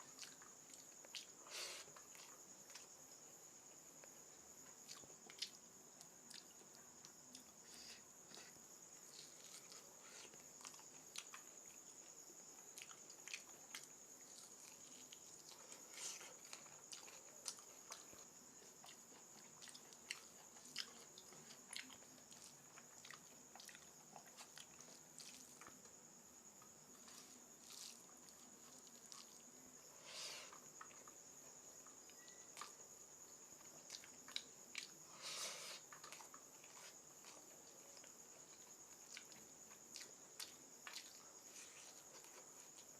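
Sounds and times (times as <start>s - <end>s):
person chewing food: 0.0s - 29.8s, 30.4s - 42.9s.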